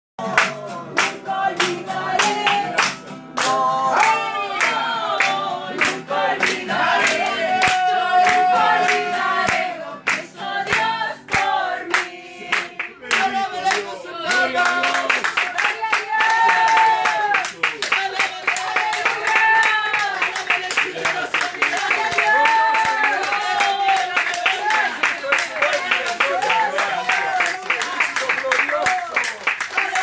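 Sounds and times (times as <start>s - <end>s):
congregation singing: 0.2s - 17.0s, 17.9s - 28.7s
acoustic guitar: 0.2s - 28.9s
people clapping along: 0.2s - 30.0s.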